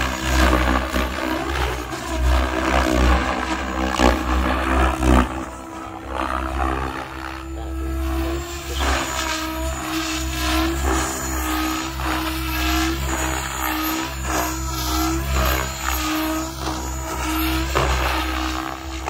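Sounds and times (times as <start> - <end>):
helicopter rotor and motor hum: 0.0 - 19.0.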